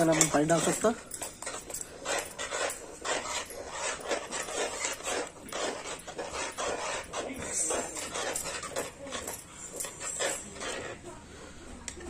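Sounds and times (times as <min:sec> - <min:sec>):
metal spatula scraping a pan: 0:00.0 - 0:11.2.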